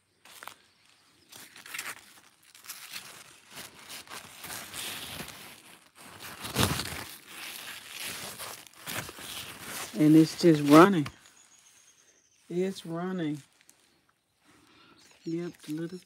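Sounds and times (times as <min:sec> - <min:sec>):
leaves rustling and crinkling: 0:00.0 - 0:16.0.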